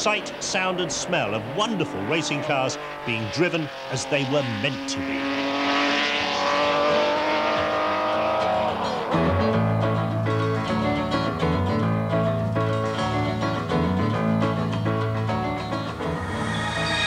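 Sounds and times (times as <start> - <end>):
racing car engine: 0.0 - 17.0.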